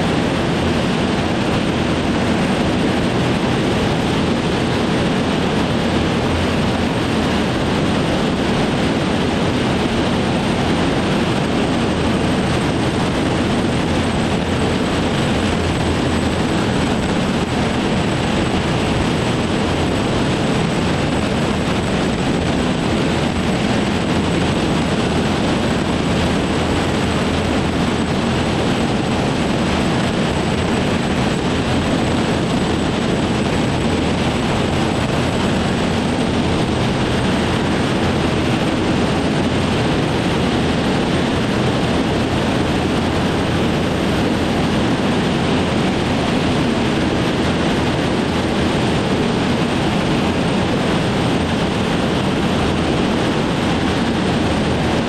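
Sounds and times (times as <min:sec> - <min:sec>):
turbojet engine running: 0:00.0 - 0:55.0.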